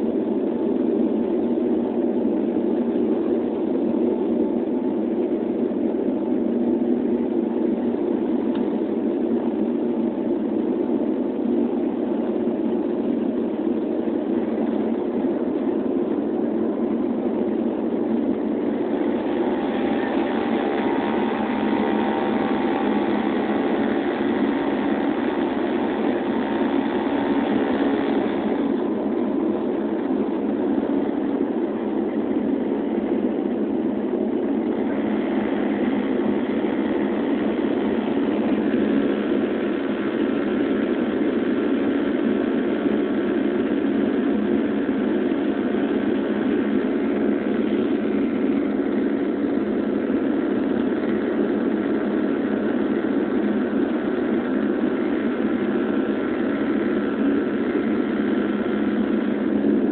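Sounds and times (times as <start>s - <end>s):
high-pitched engine whine: 0.0s - 59.9s
turboprop engines droning: 0.0s - 59.9s.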